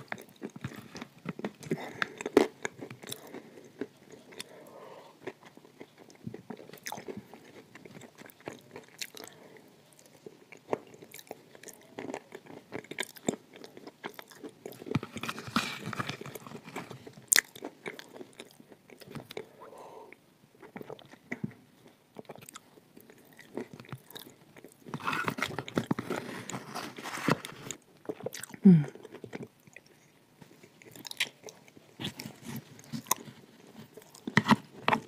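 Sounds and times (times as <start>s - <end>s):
chewing and crunching: 0.0s - 35.0s.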